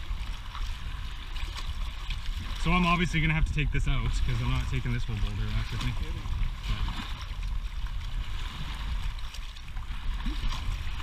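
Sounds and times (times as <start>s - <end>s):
lake waves splashing on stones: 0.0s - 11.0s
steady low rumble: 0.0s - 11.0s.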